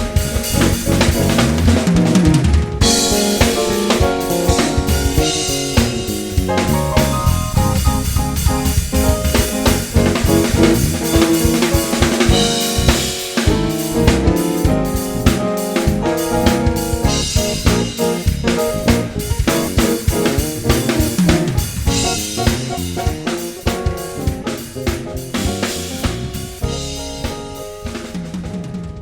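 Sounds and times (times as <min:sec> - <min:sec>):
drum kit beat: 0:00.0 - 0:29.0.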